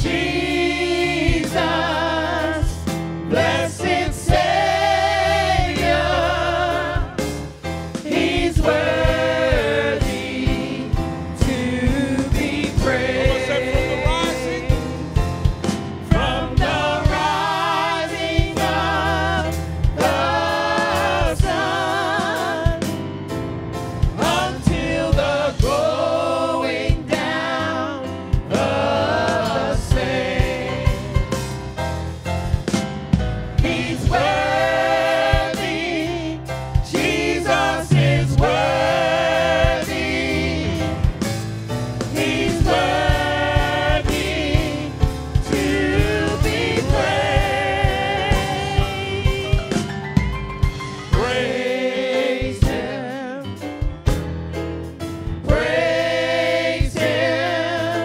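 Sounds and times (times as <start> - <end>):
voices singing with vibrato: 0.0 - 15.3, 16.1 - 22.9, 24.2 - 31.4, 33.6 - 41.1, 42.0 - 49.9, 51.1 - 53.5, 55.5 - 58.0
band playing: 0.0 - 58.0
drum kit: 0.0 - 58.0.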